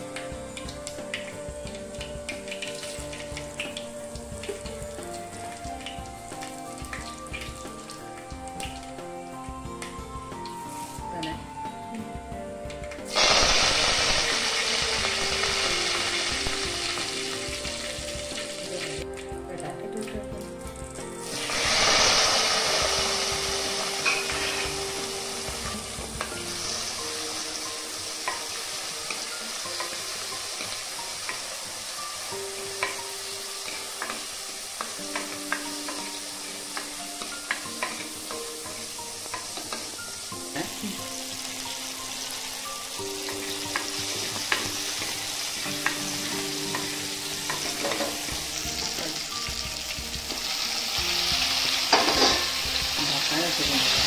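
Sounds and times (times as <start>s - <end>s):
shallots sizzling in hot oil: 0.0s - 54.0s.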